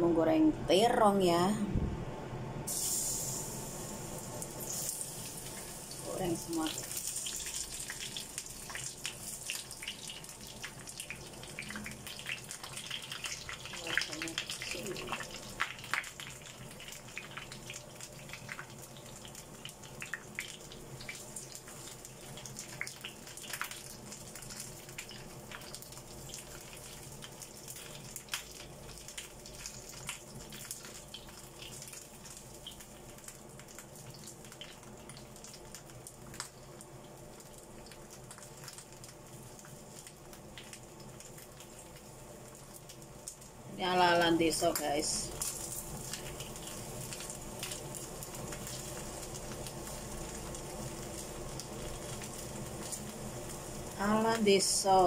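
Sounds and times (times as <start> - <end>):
eggplant sizzling in frying oil: 2.7 - 55.0.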